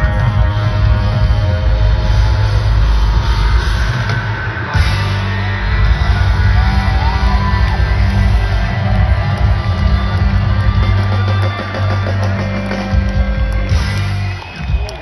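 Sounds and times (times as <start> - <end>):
bass and drums: 0.0 - 15.0.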